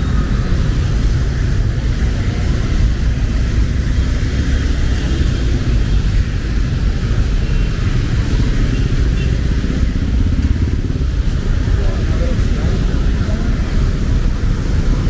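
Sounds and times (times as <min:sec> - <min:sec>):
heavy rain: 0:00.0 - 0:15.0
traffic rumble: 0:00.0 - 0:15.0.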